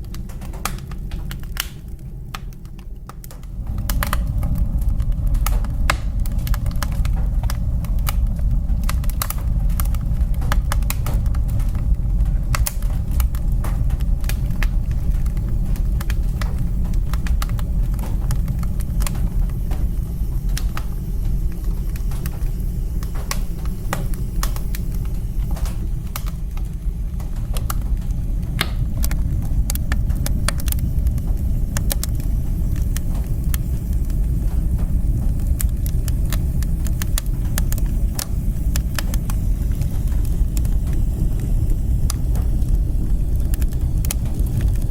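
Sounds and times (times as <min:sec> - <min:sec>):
fire crackling and popping: 0:00.0 - 0:44.9
fire flames rumbling: 0:00.0 - 0:44.9.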